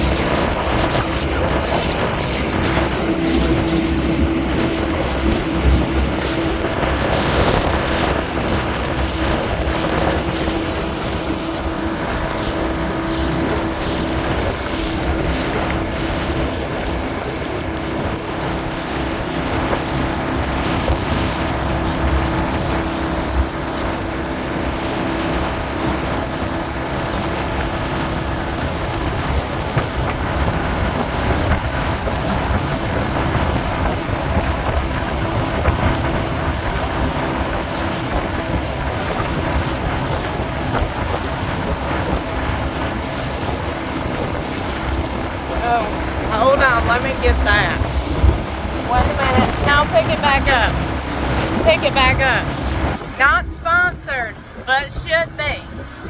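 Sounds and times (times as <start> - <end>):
boat motor running: 0.0 - 56.0
choppy water against hull: 0.0 - 56.0
wind buffeting microphone: 0.0 - 56.0.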